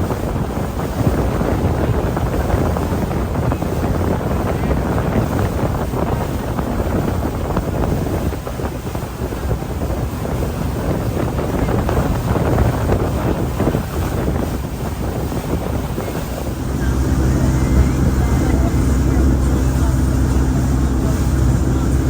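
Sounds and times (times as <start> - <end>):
boat and water rushing: 0.0 - 22.0
wind buffeting microphone: 0.0 - 22.0.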